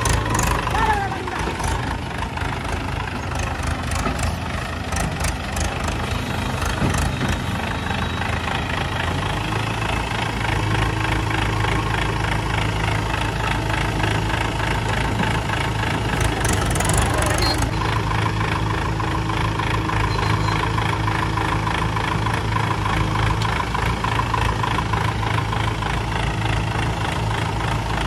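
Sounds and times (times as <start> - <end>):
diesel tractor engine idling: 0.0 - 28.0
tractor rattling: 0.0 - 28.0.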